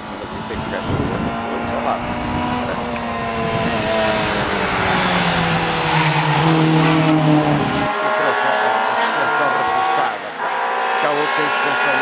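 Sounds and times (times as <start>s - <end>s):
rally car engine running hard: 0.0s - 12.0s.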